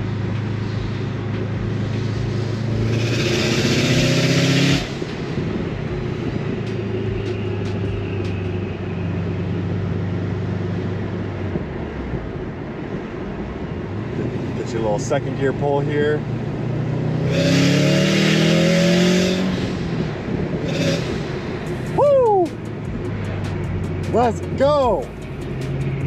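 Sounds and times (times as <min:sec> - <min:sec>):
car engine accelerating: 0:00.0 - 0:12.9, 0:13.7 - 0:26.0
road noise: 0:00.0 - 0:26.0.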